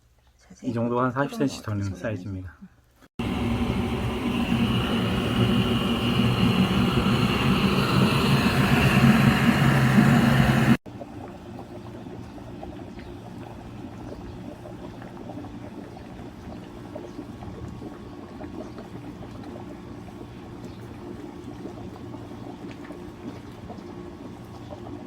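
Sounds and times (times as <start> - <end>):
broth bubbling: 3.2 - 25.0
steady low hum: 3.2 - 25.0.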